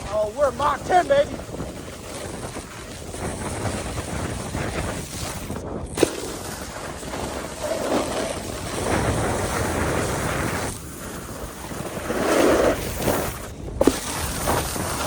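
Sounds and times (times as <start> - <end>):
snowboard scraping over snow: 0.0 - 15.0
wind rushing over microphone: 0.0 - 15.0.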